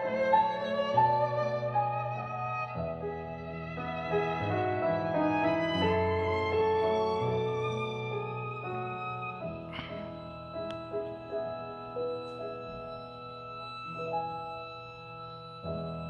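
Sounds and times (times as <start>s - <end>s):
violin melody: 0.0s - 16.0s.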